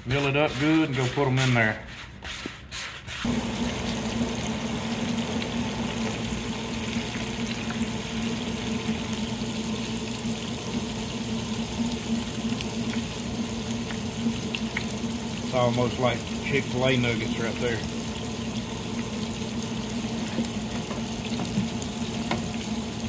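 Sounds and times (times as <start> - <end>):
oil bubbling and sizzling in fryer: 3.2 - 23.0.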